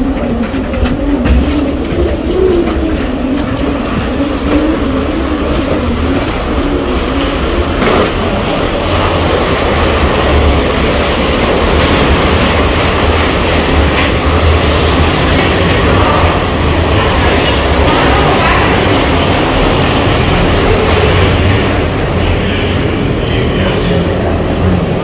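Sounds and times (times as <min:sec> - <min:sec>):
jet bridge rumbling: 0:00.0 - 0:25.0
rolling suitcase wheels rattling: 0:00.0 - 0:25.0.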